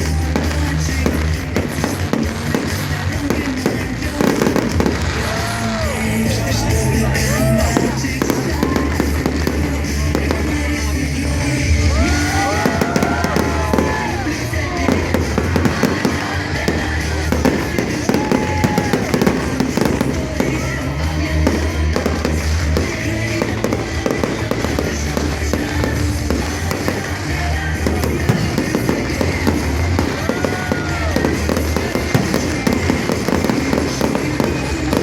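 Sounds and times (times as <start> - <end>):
fireworks bangs and crackles: 0.0 - 35.0
loud music with bass line: 0.0 - 35.0.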